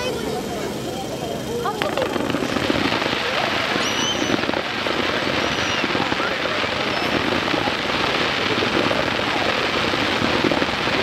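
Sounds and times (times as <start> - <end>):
firework whistling: 0.0 - 11.0
fireworks crackling: 0.0 - 11.0.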